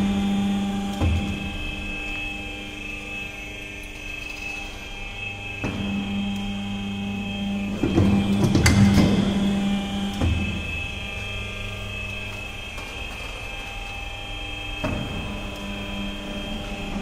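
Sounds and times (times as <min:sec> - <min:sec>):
crimping machine motor hum: 0:00.0 - 0:17.0
high machine whine: 0:00.0 - 0:17.0.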